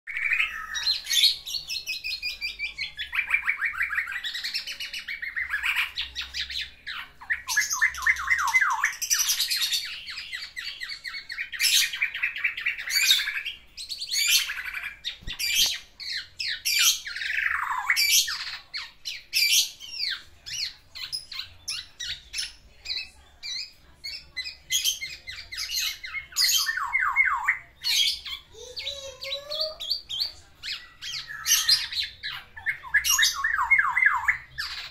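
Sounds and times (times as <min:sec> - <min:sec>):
bird singing chattering trills: 0:00.1 - 0:34.9.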